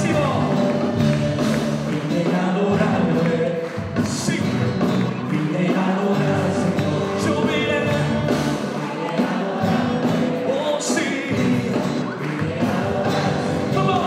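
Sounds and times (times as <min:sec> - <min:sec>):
acoustic and electric guitars: 0:00.0 - 0:14.0
voices singing: 0:00.0 - 0:14.0.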